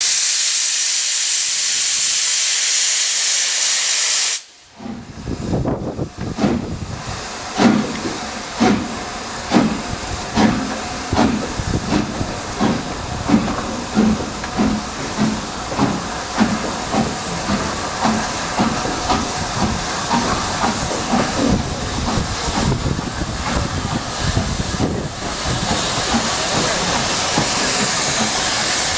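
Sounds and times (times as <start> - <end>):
steam hissing: 0.0 - 28.9
steam locomotive exhaust beats: 0.0 - 28.9.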